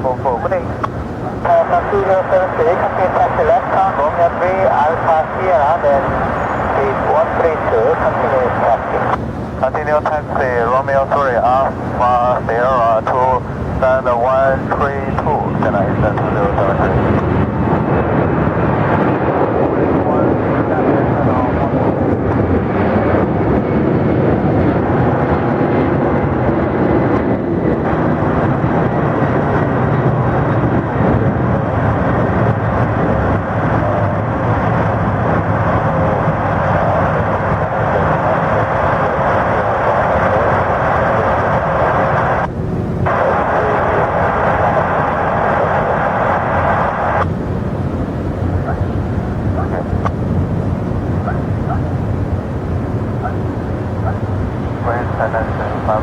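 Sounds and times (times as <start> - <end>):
faint steady whine: 0.0 - 56.0
jet engine noise: 0.0 - 56.0.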